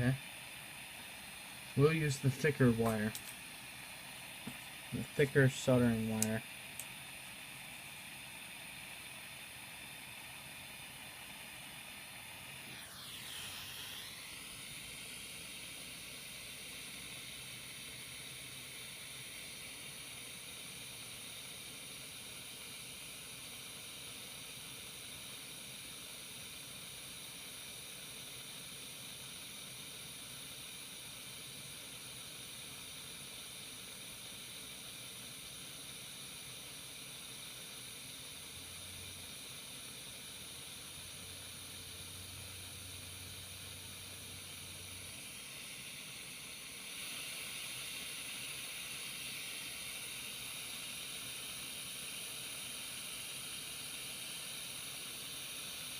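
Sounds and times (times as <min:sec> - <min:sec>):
soldering iron hissing: 0:00.0 - 0:55.9.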